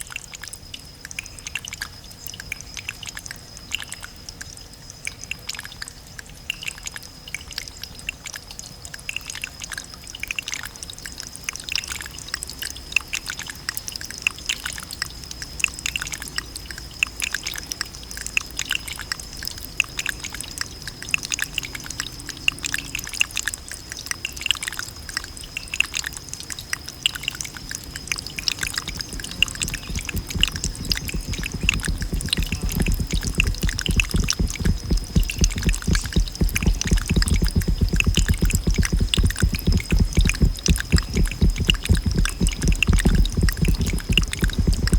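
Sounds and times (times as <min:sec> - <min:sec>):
water dripping: 0:00.5 - 0:44.9.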